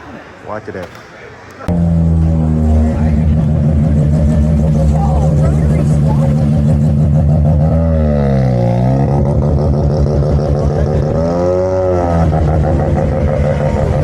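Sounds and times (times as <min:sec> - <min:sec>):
car engine revving: 0:01.6 - 0:14.0.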